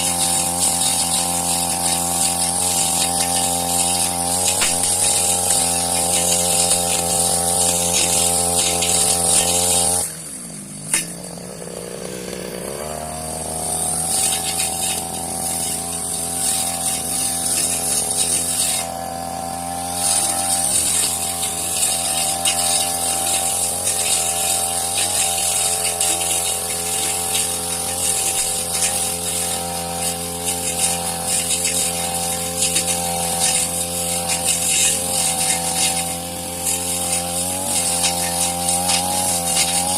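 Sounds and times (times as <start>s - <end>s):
brush cutter engine: 0.0s - 39.9s.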